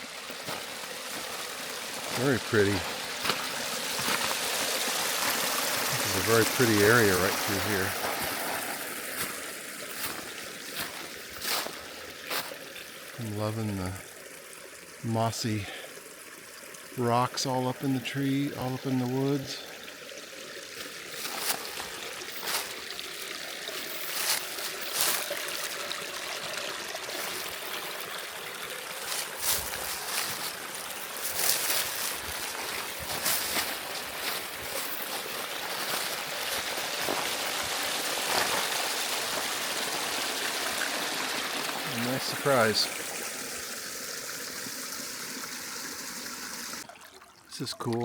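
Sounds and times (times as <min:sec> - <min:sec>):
stream trickling over rocks: 0:00.0 - 0:48.0.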